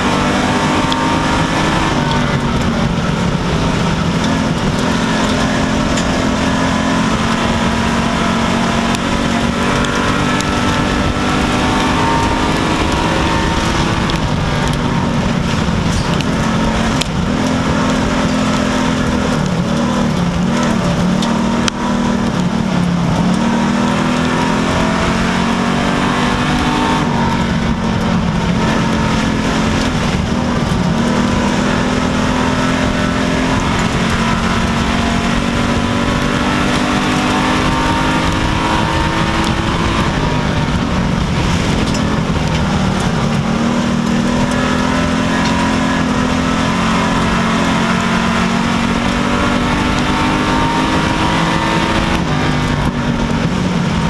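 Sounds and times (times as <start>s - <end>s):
race car engine running hard: 0.0s - 54.0s
steady rushing noise: 0.0s - 54.0s.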